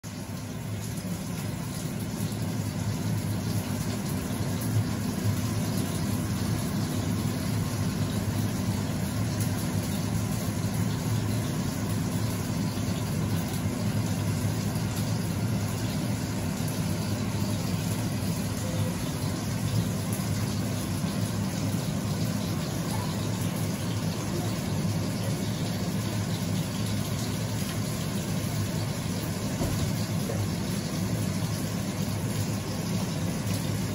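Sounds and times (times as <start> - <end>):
air fryer fan humming: 0.0 - 33.9.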